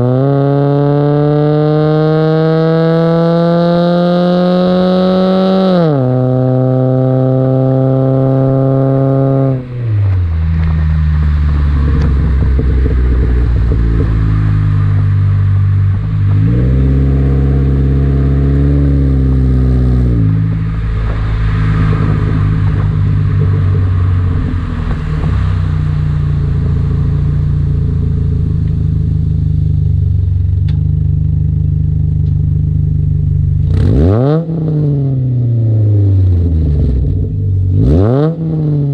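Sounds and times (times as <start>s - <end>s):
car engine accelerating and cruising: 0.0s - 38.9s.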